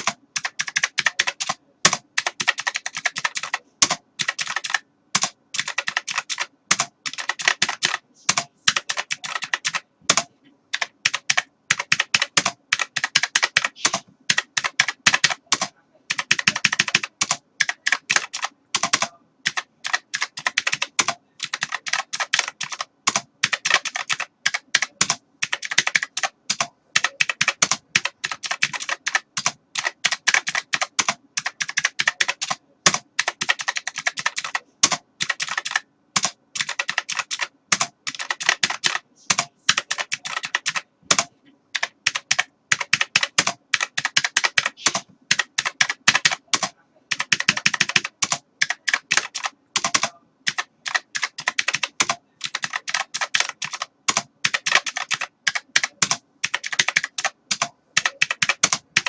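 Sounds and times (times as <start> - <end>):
typing on computer keyboard: 0.0 - 59.0.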